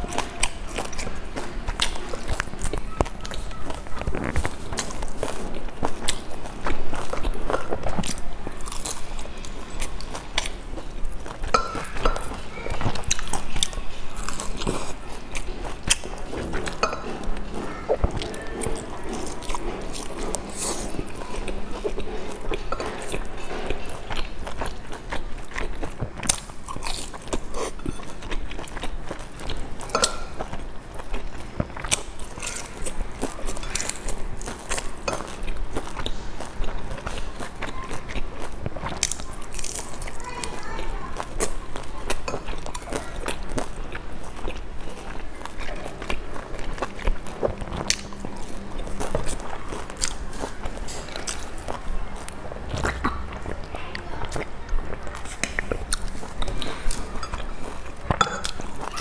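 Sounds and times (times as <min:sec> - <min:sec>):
person chewing crispy dumplings: 0:00.0 - 0:59.0.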